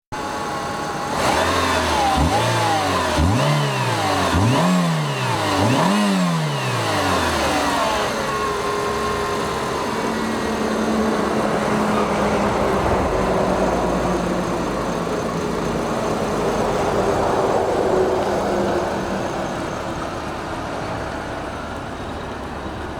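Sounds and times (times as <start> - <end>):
car engine revving and idling: 0.2 - 22.9.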